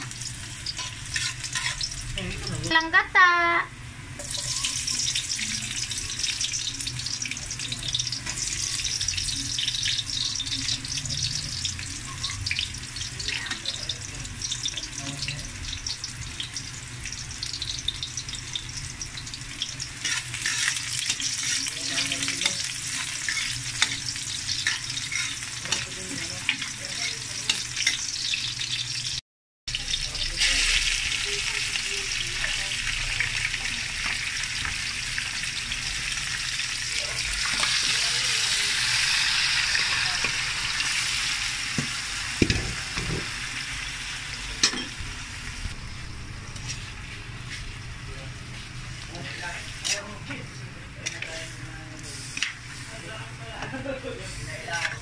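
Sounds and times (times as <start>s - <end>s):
garlic and onion sizzling in oil: 0.0s - 55.0s.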